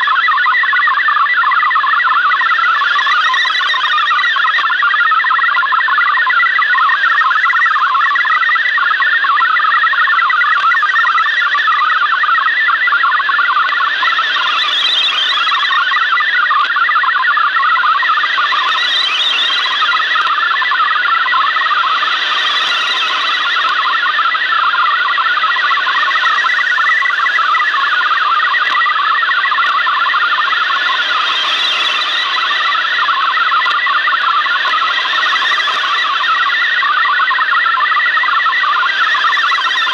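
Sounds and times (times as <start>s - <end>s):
warbling digital data tones: 0.0s - 39.9s
radio hiss: 1.3s - 39.9s.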